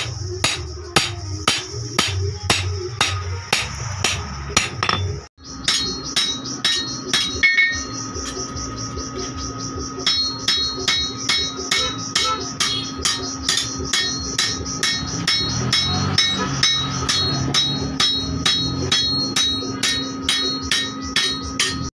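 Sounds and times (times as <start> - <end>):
hammer blows on anvil: 0.0 - 8.2, 10.0 - 21.9.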